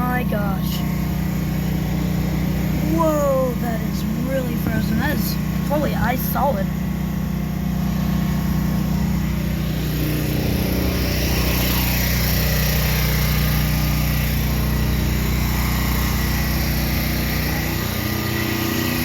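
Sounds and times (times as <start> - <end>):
air conditioning units humming: 0.0 - 19.0.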